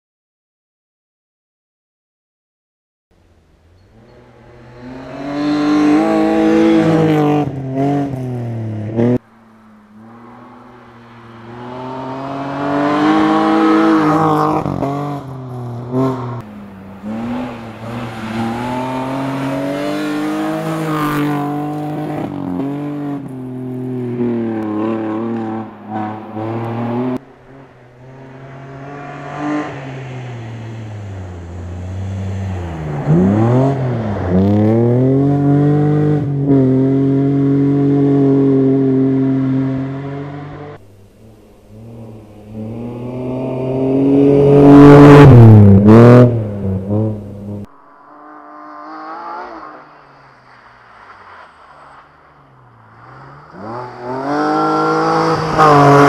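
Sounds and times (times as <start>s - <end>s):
rally car engine revving: 3.8s - 9.2s, 9.9s - 51.8s, 52.7s - 56.0s.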